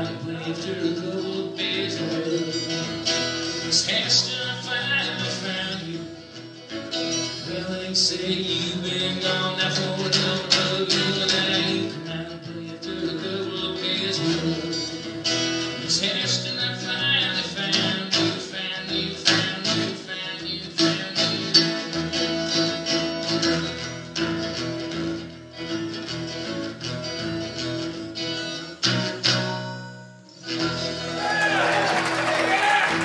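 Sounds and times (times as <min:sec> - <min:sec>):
acoustic guitar strummed: 0:00.0 - 0:33.0.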